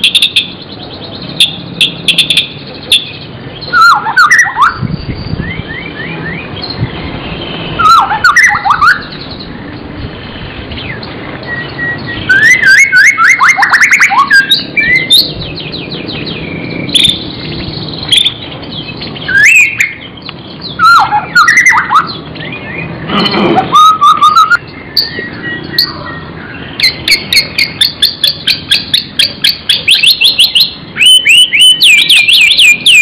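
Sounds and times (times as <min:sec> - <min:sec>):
bird singing whistled phrases: 0:00.0 - 0:06.8, 0:07.8 - 0:09.5, 0:10.8 - 0:33.0.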